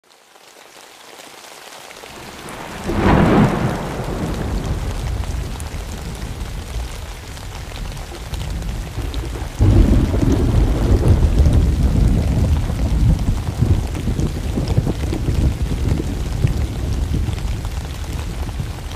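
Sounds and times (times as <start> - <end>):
steady rain: 0.0 - 18.9
thunder rumbling: 2.1 - 18.9.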